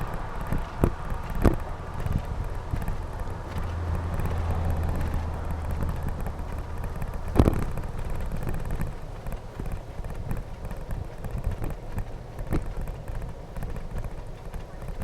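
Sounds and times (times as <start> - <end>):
road and wind noise: 0.0 - 15.0
steady low hum: 0.0 - 15.0.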